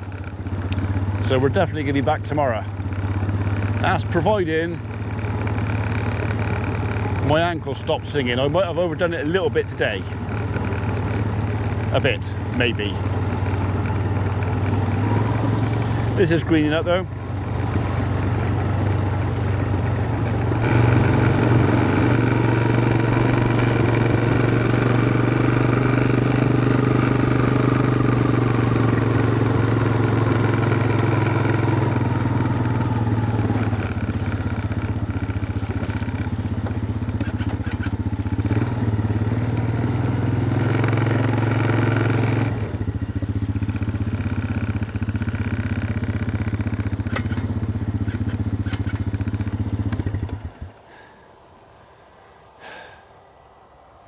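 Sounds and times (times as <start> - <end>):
vehicle engine humming: 0.0 - 54.0.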